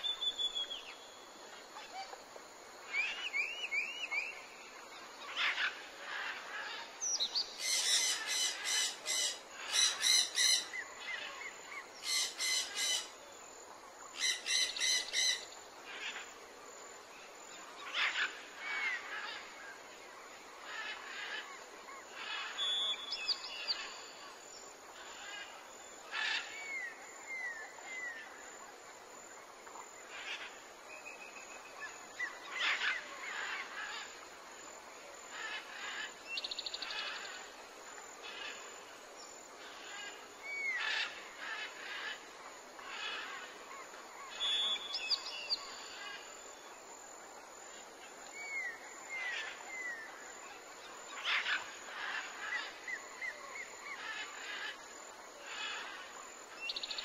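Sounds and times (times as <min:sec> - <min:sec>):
rapid repeated bird calls: 0:02.8 - 0:13.2, 0:14.1 - 0:16.4, 0:17.6 - 0:46.8, 0:47.7 - 0:57.0.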